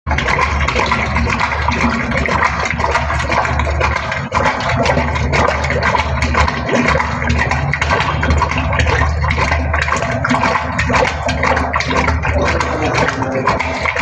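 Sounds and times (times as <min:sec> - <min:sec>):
low machine hum: 0:00.1 - 0:14.0
water rushing: 0:00.1 - 0:14.0.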